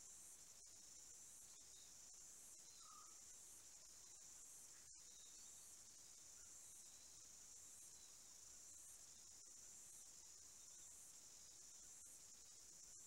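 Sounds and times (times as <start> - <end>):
insect chorus shrilling: 1.4 - 12.9.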